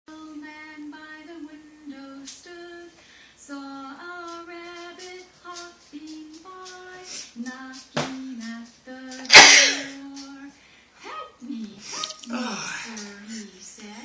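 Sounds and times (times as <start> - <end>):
woman singing wordless tune: 0.1 - 10.7, 11.4 - 14.0.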